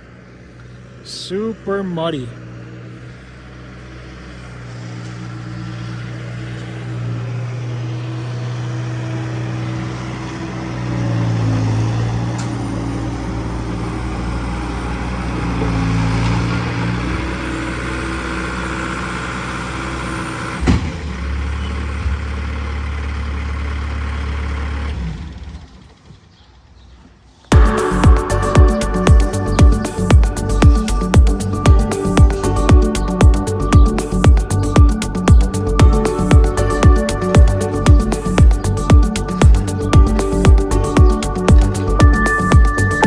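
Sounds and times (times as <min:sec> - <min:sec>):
vehicle engine running: 0:00.0 - 0:26.9, 0:27.5 - 0:43.0.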